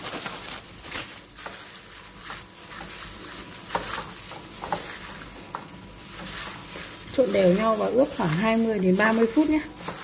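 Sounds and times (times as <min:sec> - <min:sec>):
wet squelching of meat in marinade: 0:00.0 - 0:10.0.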